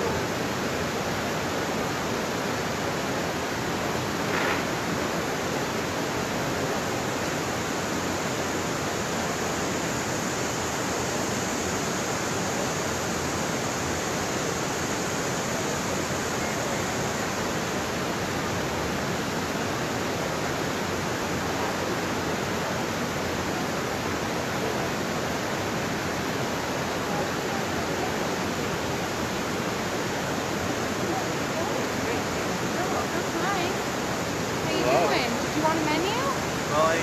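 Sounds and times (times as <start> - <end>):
river water rushing over rocks: 0.0 - 37.0.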